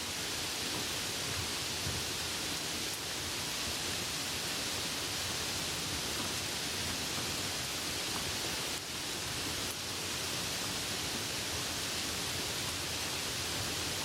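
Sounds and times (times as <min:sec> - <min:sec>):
soft rain hissing: 0:00.0 - 0:14.0.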